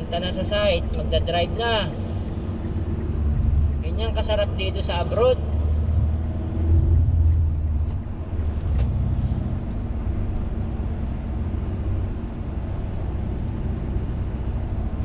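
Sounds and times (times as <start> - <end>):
engine and road noise in vehicle: 0.0 - 15.0.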